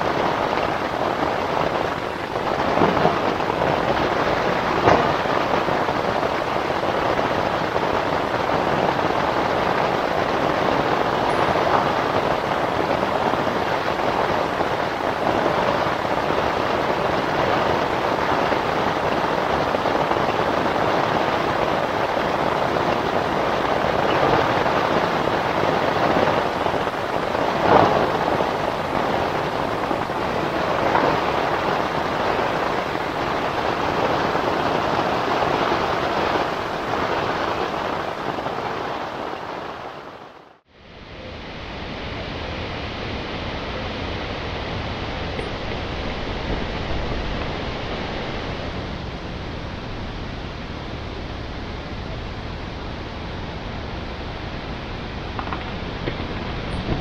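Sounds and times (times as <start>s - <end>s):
crackle: 0.0s - 40.6s, 44.4s - 57.0s
rain pattering on tent fabric: 0.0s - 40.7s, 44.5s - 57.0s.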